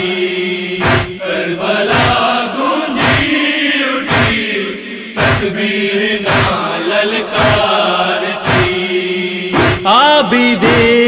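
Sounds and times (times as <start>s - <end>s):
male voices chanting: 0.0s - 11.0s
heavy beat: 0.8s - 8.9s, 9.5s - 11.0s.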